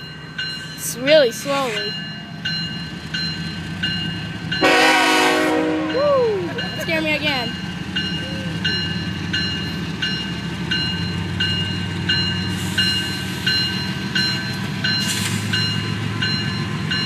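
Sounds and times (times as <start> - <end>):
freight train rumbling: 0.0 - 17.0
railroad bell ringing: 0.0 - 17.0.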